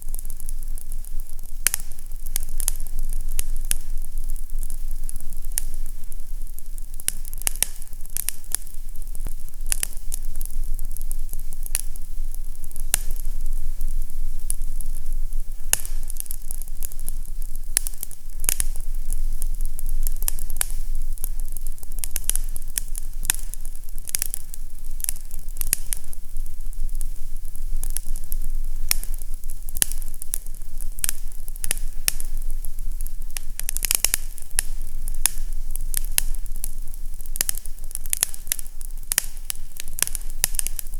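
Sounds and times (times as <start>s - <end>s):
fire crackling and popping: 0.0s - 40.9s
steady hiss: 0.0s - 40.9s.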